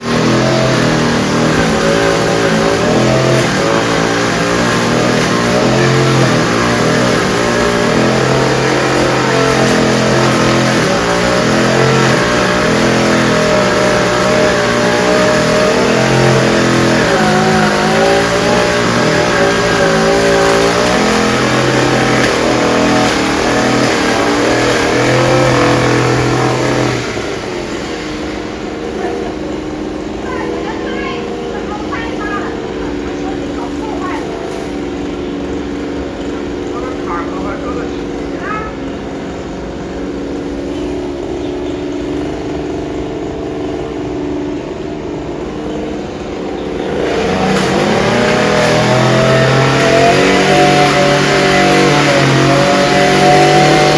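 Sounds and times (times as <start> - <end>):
sprayer engine running loudly: 0.0 - 53.9.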